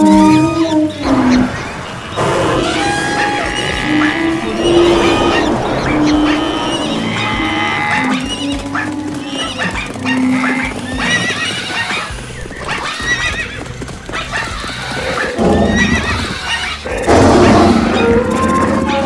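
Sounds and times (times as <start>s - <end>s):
horses whinnying: 0.0s - 19.0s
galloping hoofbeats: 2.8s - 19.0s.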